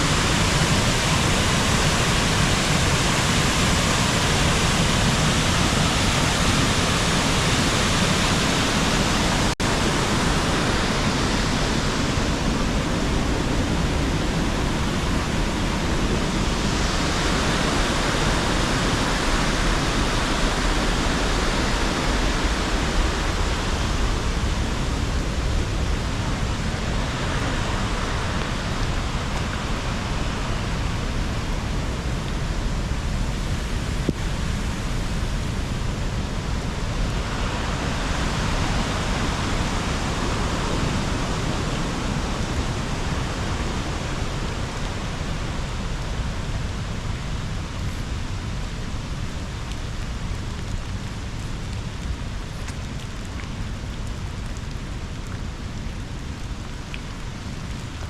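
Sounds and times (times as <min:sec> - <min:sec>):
waterfall and river rushing: 0:00.0 - 0:50.3.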